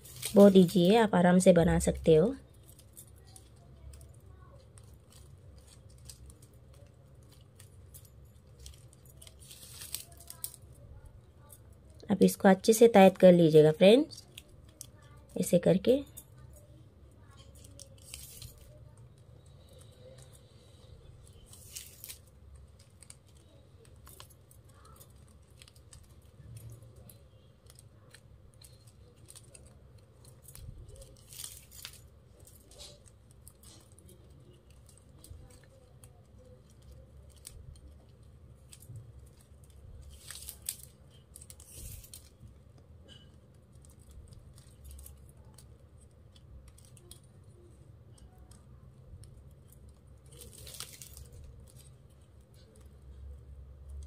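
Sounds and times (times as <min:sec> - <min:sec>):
plastic strands rustling and scraping: 0:00.0 - 0:54.0.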